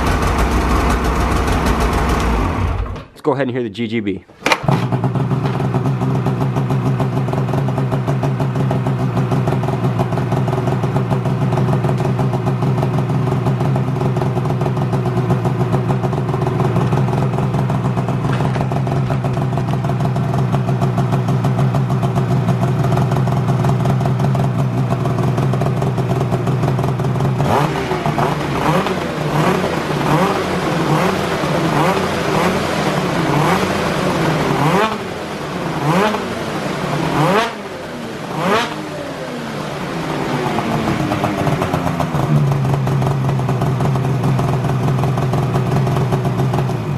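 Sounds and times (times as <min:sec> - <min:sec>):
snowmobile engine idling and revving: 0:00.0 - 0:03.0, 0:04.6 - 0:46.9.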